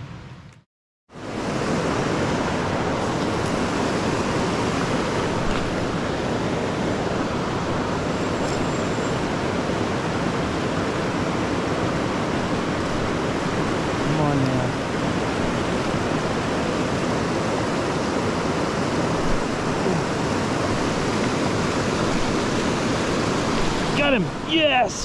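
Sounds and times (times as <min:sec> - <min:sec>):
river water flowing over stones: 0:01.2 - 0:25.0.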